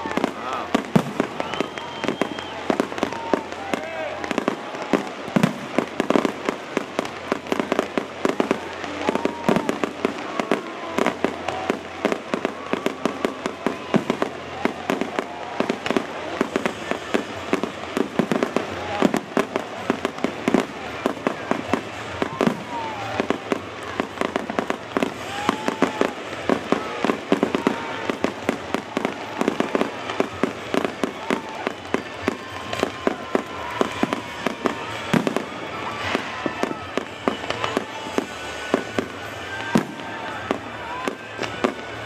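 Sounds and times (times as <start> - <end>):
fireworks bursting: 0.0 - 42.0
fireworks crackling: 0.0 - 42.0.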